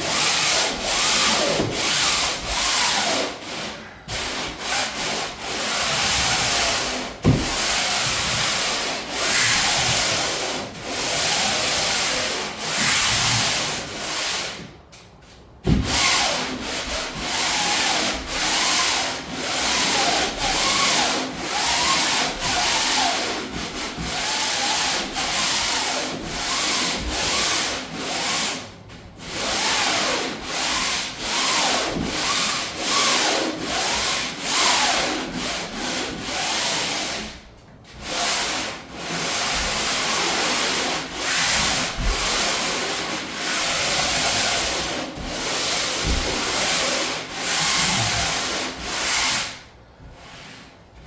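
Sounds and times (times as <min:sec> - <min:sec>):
sandpaper rubbing on plywood: 0:00.0 - 0:14.6, 0:15.7 - 0:37.4, 0:38.0 - 0:49.6.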